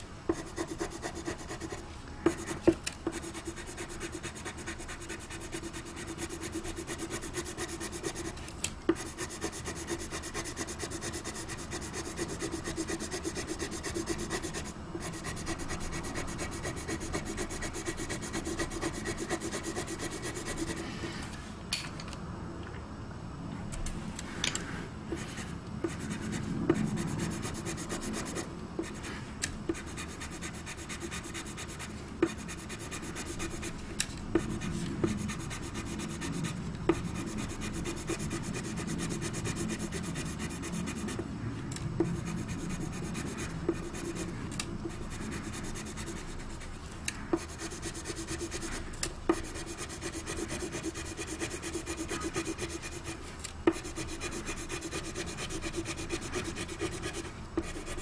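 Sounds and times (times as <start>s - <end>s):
pencil scratching on paper: 0.3s - 8.4s, 9.0s - 20.8s, 25.2s - 29.1s, 29.7s - 33.8s, 34.4s - 41.2s, 42.0s - 46.7s, 47.4s - 58.0s.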